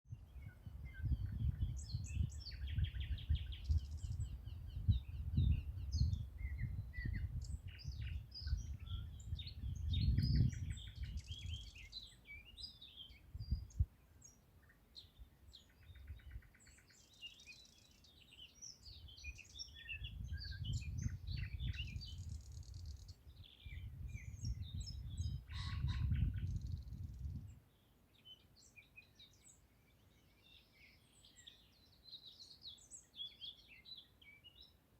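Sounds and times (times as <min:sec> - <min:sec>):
songbirds singing and chirping: 0:00.1 - 0:34.9.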